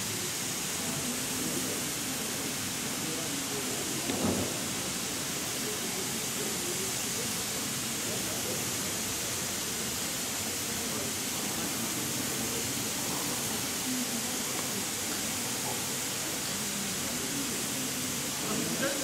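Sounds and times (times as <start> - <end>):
water spraying from sprinkler: 0.0 - 19.0.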